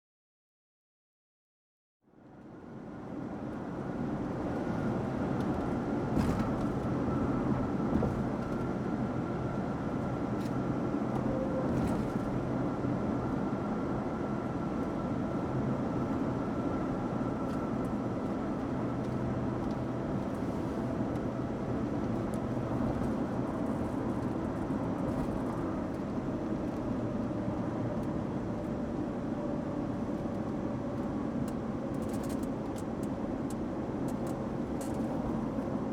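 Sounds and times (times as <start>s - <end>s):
car engine and road noise: 2.3s - 35.9s.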